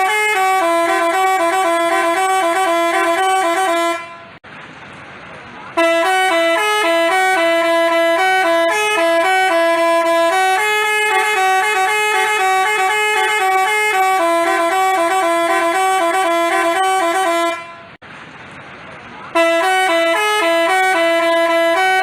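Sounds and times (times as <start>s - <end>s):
musical horn playing a tune: 0.0s - 4.4s, 5.8s - 18.0s, 19.4s - 22.0s.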